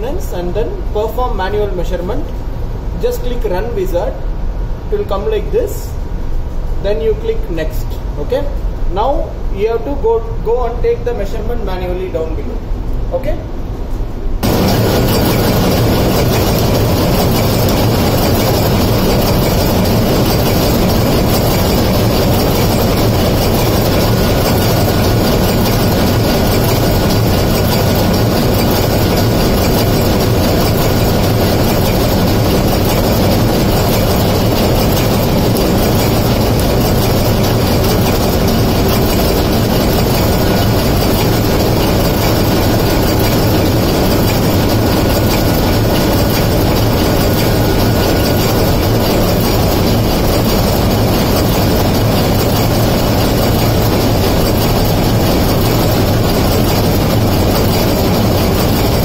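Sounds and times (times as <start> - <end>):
engine room machinery din: 0.0 - 59.0.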